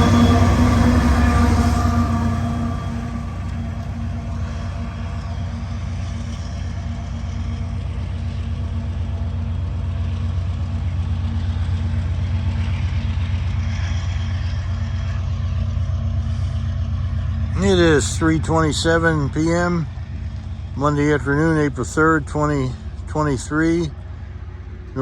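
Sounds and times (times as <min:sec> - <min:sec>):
diesel locomotive engine humming: 0:00.0 - 0:25.0.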